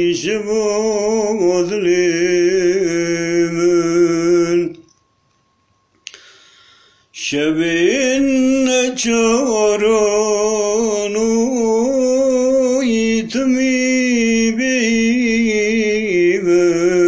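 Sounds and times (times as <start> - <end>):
man singing unaccompanied: 0.0 - 4.9, 7.1 - 17.0.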